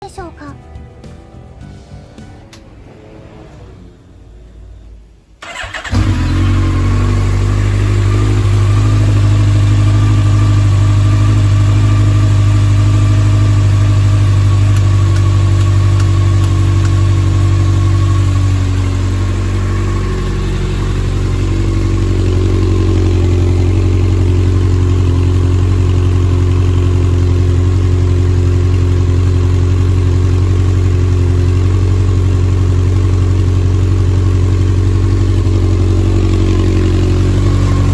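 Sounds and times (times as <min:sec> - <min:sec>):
motorcycle engine starting and idling: 0:02.4 - 0:37.9.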